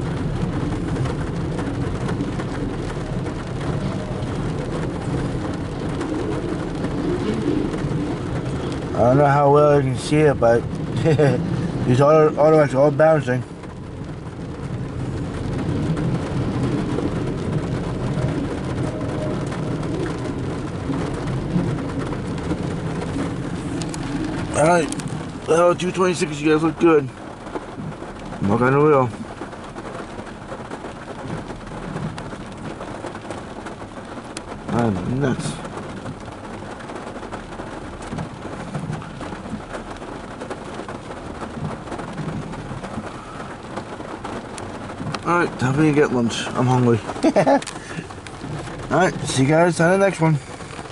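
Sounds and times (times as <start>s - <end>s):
rain falling on vehicle: 0.0s - 50.9s.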